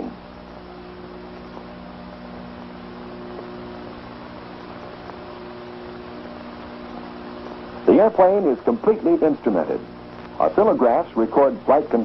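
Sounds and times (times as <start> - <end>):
even hiss: 0.0 - 12.0
steady low hum: 0.0 - 12.0.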